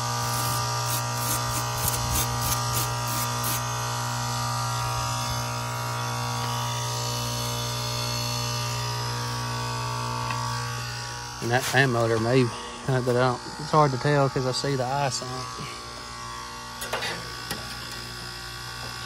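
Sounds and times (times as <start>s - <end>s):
heat pump electrical buzzing hum: 0.0s - 19.0s.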